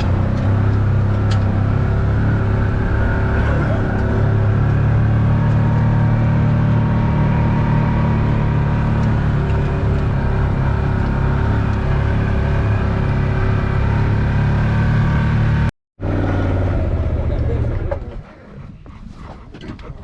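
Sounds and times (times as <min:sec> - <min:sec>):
vehicle engine running: 0:00.0 - 0:18.3.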